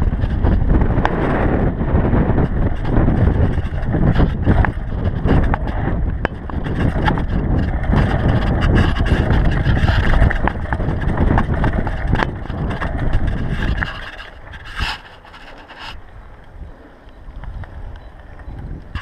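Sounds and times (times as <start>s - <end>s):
tyres rumbling over dirt: 0.0s - 16.0s
wind on microphone: 0.0s - 19.0s
bike rattling clicks: 2.3s - 19.0s.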